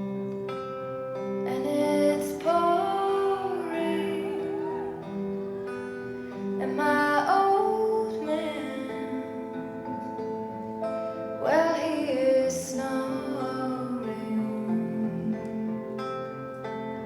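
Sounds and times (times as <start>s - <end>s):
plucked acoustic guitar: 0.0s - 17.0s
woman singing slow song: 1.4s - 10.4s, 11.3s - 16.2s.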